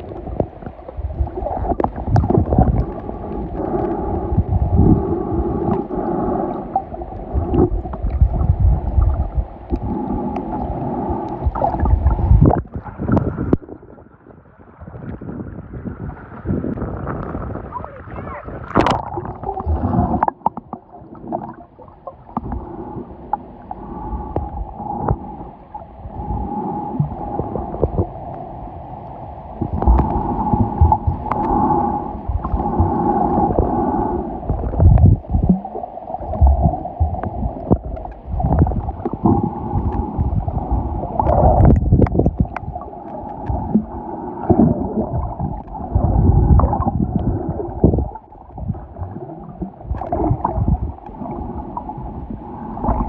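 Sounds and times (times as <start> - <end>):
water gurgling underwater: 0.0 - 28.6, 29.6 - 53.0.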